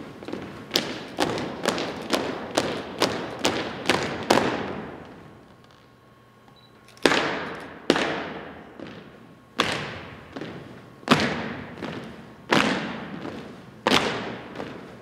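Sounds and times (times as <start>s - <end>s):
shoes stomping on hardwood floor: 0.2s - 5.2s, 7.0s - 15.0s.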